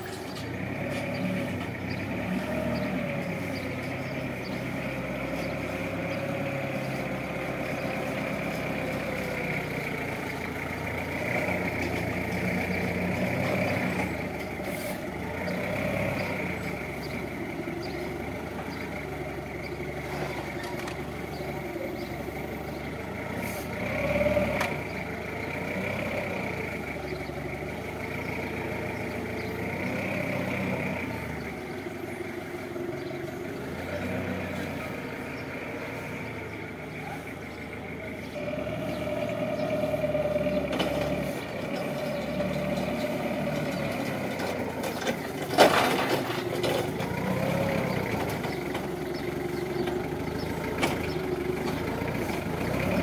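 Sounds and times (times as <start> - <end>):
forklift engine running: 0.0 - 53.0.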